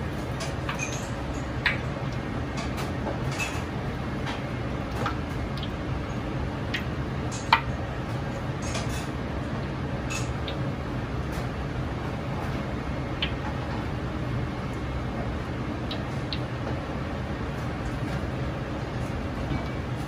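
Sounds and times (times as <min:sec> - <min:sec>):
gas burner rumble: 0:00.0 - 0:20.0
hot oil ticking and popping: 0:00.2 - 0:12.0, 0:12.8 - 0:18.0.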